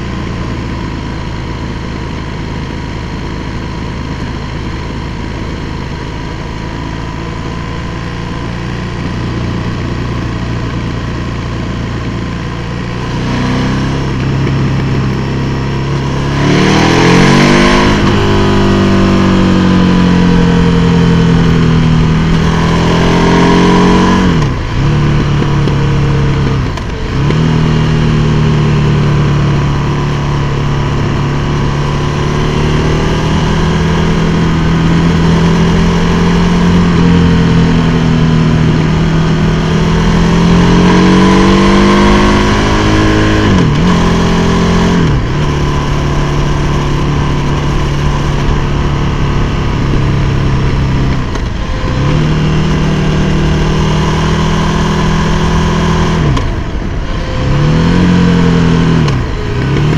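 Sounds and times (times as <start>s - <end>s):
motorcycle engine running: 0.0s - 59.9s
steady rush of noise: 0.0s - 59.9s.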